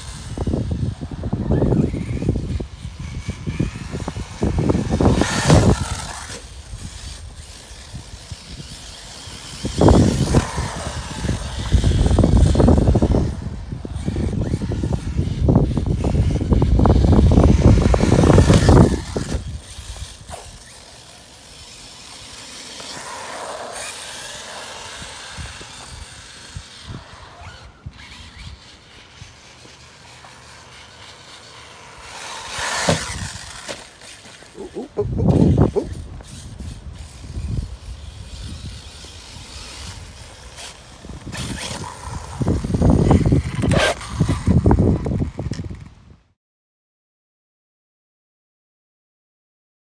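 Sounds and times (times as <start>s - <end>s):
rc car motor whirring: 0.0s - 46.2s.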